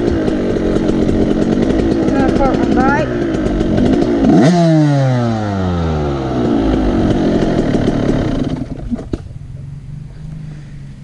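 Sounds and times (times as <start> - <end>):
motorbike engine revving and idling: 0.0 - 11.0.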